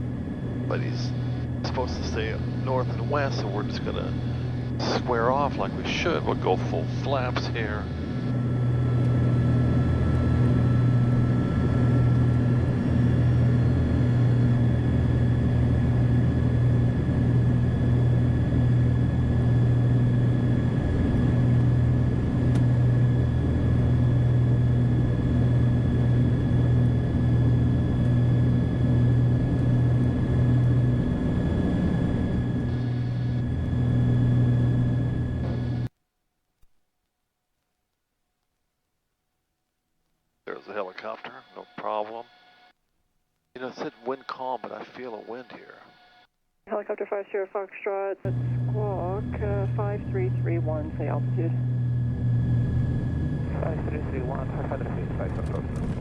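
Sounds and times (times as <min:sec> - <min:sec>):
twin piston engines droning: 0:00.0 - 0:35.9, 0:43.6 - 0:46.3, 0:48.3 - 0:56.0.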